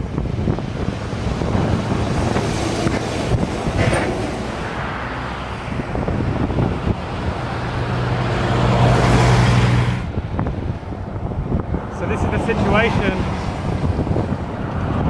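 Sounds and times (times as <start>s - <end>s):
vehicle passing by: 0.4s - 15.0s.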